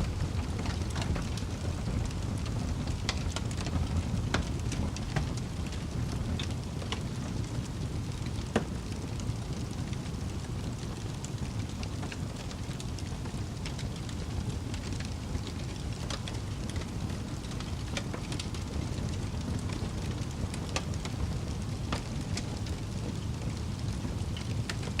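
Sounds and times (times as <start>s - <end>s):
fire crackling: 0.0s - 25.0s
low rumble of flame: 0.0s - 25.0s.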